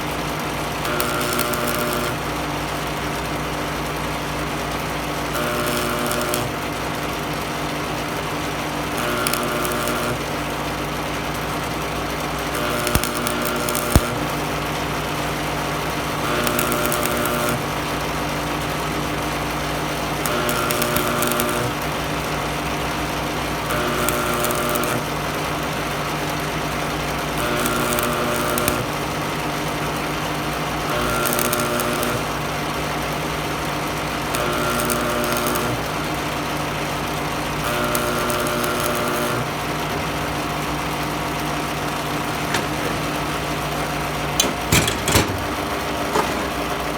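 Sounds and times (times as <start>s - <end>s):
welder humming: 0.0s - 46.9s
welding arc buzz and crackle: 0.0s - 46.9s.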